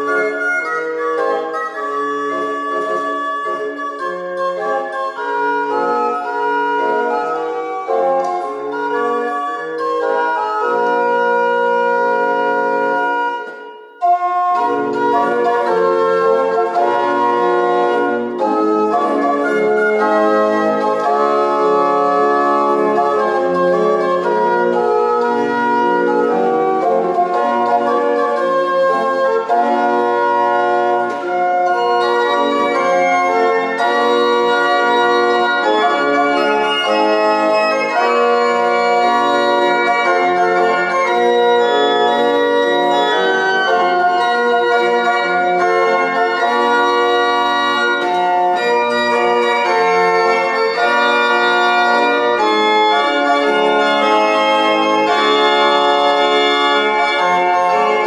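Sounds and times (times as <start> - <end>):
organ playing a hymn: 0.0 - 58.0.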